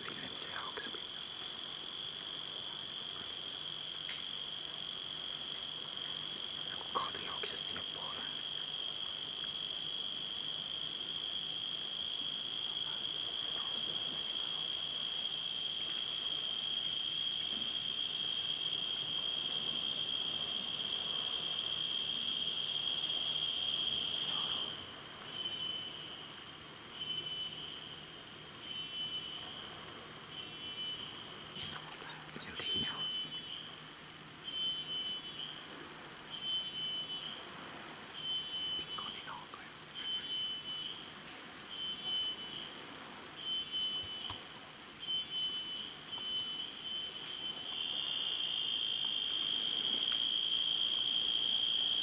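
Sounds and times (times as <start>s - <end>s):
insect whine: 0.0s - 52.0s.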